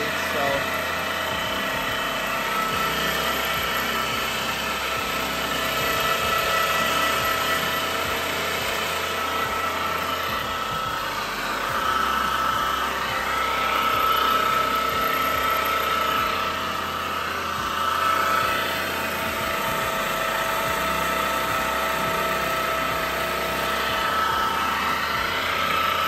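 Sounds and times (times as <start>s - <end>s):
gearbox mechanical hum: 0.0s - 26.0s
high gear whine: 0.0s - 26.0s.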